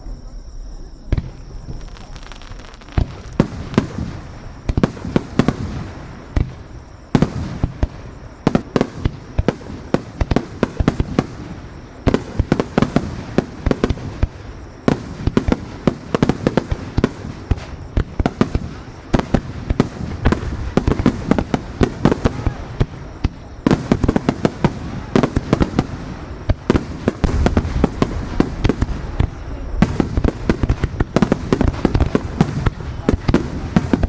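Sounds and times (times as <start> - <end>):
rumble of booms and crackle: 0.0 - 34.0
fireworks bangs: 1.1 - 34.0.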